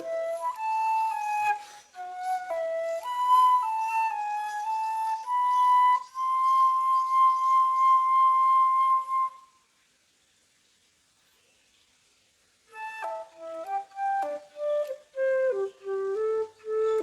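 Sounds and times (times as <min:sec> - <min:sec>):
solo flute melody: 0:00.0 - 0:09.7, 0:12.7 - 0:17.0.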